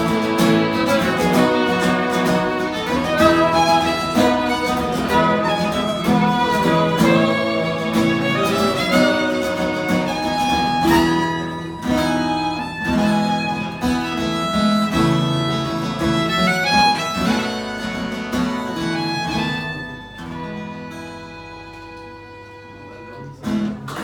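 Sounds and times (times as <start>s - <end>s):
fiddle playing slow melody: 0.0s - 23.6s
strummed acoustic guitar: 0.0s - 24.0s.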